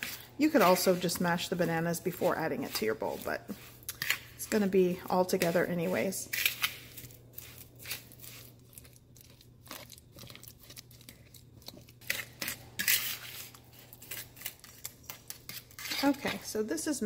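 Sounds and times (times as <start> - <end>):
fork mashing in plastic bowl: 0.0 - 16.5.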